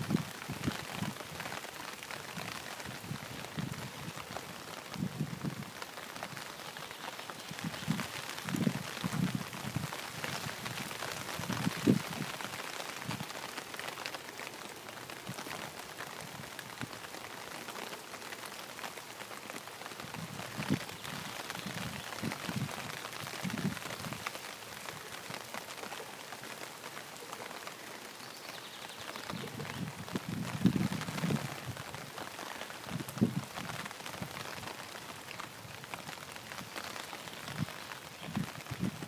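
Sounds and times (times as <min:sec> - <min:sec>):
rain on water and leaves: 0:00.0 - 0:39.0.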